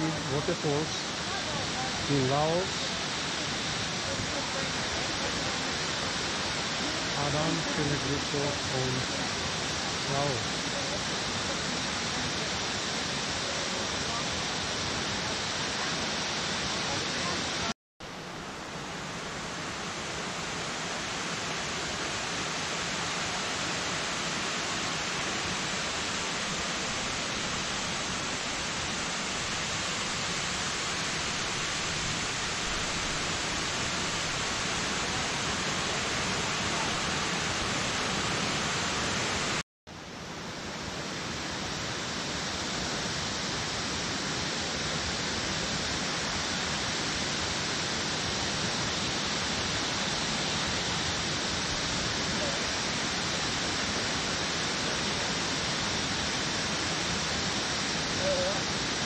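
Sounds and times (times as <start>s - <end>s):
waterfall rushing: 0.0s - 17.8s, 18.5s - 39.6s, 40.6s - 59.0s.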